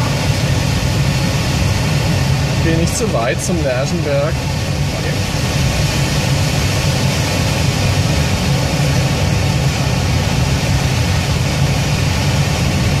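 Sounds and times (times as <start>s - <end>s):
airflow rushing around glider cockpit: 0.0s - 13.0s
unsteady low rumble: 0.0s - 13.0s.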